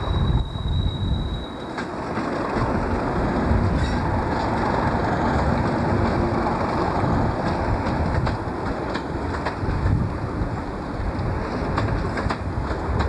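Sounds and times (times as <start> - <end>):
wheels clicking over rail joints: 1.5 - 13.0.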